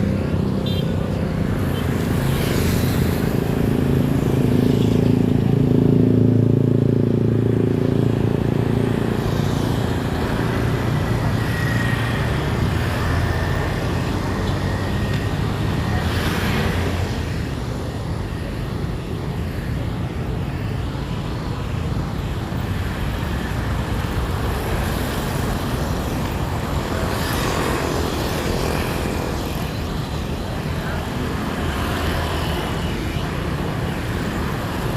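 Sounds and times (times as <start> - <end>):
car and motorcycle engines: 0.0 - 34.9
steady traffic hum: 0.0 - 34.9.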